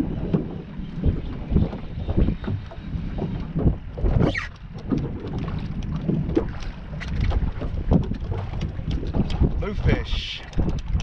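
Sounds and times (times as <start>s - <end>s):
water slapping boat hull: 0.0s - 11.0s
wind buffeting microphone: 0.0s - 11.0s.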